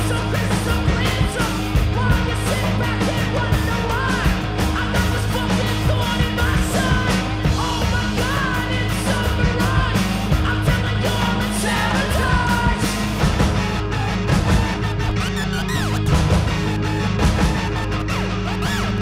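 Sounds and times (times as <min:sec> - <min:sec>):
loud music with drum beat: 0:00.0 - 0:19.0
sung and yelled vocals: 0:00.0 - 0:19.0.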